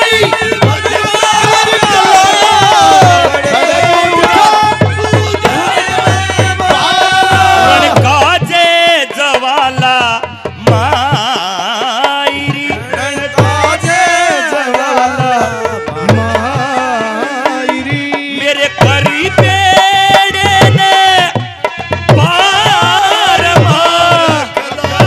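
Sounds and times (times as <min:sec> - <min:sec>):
hand drum beat: 0:00.0 - 0:25.0.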